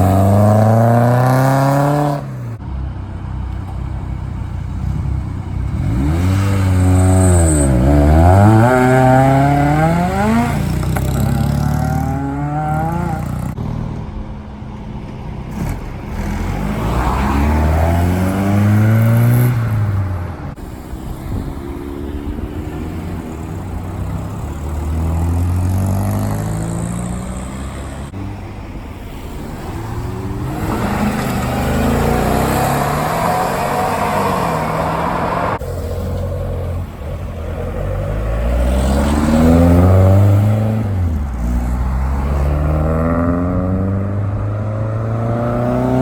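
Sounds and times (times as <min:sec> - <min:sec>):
cars driving past: 0:00.0 - 0:46.0.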